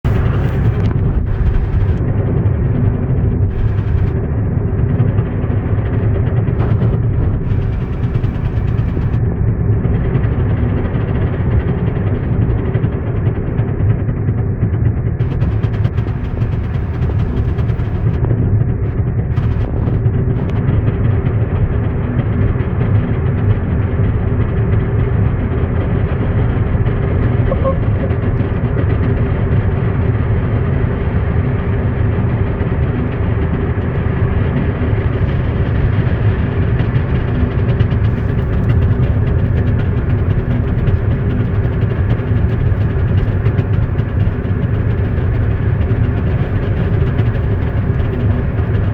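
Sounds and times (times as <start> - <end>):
car engine running: 0.0 - 14.2, 15.1 - 48.9.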